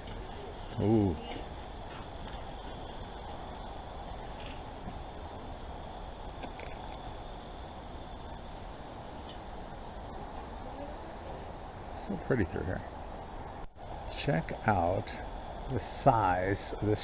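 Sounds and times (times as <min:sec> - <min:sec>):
insects trilling: 0:00.0 - 0:17.0
low rustle of wind: 0:00.0 - 0:17.0.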